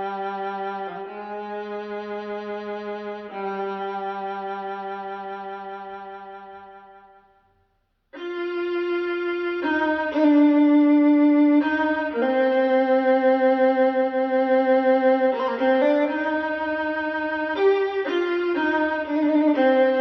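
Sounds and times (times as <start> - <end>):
bowed string melody: 0.0 - 7.2, 8.2 - 20.0.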